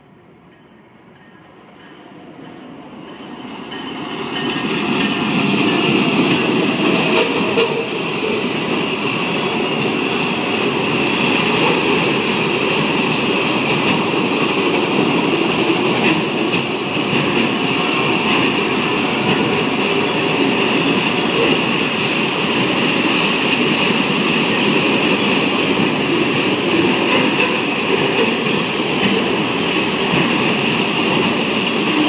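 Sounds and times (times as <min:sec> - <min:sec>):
diesel locomotive passing: 0:00.0 - 0:32.0
train wheels rumbling on rails: 0:00.0 - 0:32.0.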